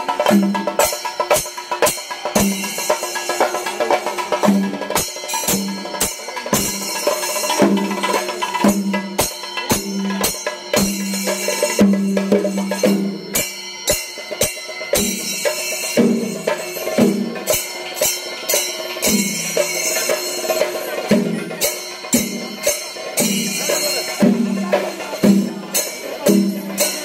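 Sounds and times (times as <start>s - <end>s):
drums beaten with sticks: 0.0s - 27.0s
metallic jangle: 0.0s - 27.0s.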